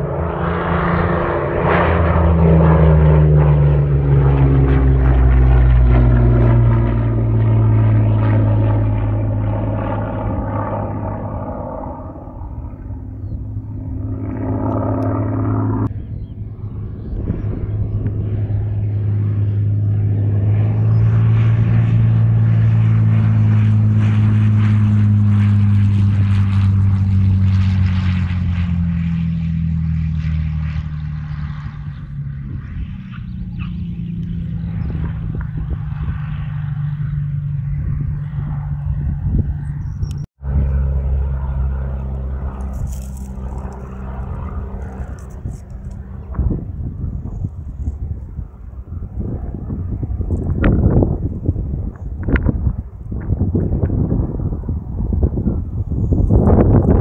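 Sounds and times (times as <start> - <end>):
loud steady propeller drone: 0.0 - 57.0
propeller aircraft flying past: 0.0 - 57.0.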